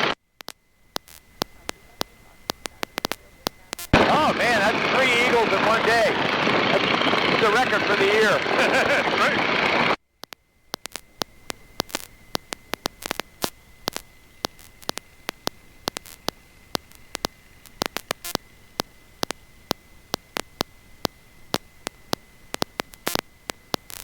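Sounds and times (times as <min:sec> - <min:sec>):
faint high whine: 0:00.0 - 0:24.0
sharp static clicks: 0:00.0 - 0:24.0
static hiss: 0:00.0 - 0:24.0.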